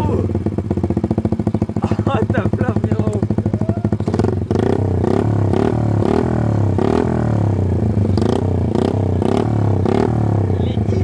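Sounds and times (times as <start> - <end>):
minibike engine revving: 0.0 - 11.0.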